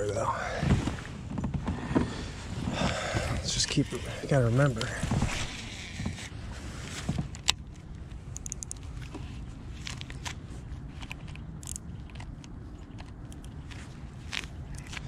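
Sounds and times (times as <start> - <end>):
low steady rumble: 0.0 - 15.0
fishing gear clicks and rustles: 1.2 - 15.0.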